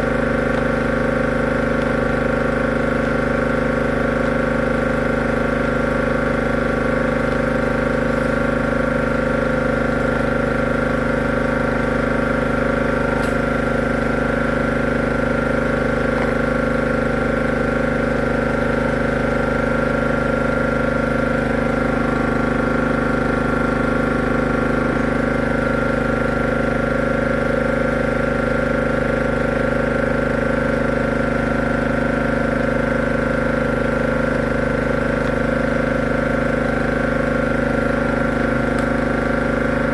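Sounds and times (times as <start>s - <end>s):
machine motor humming: 0.0s - 39.9s.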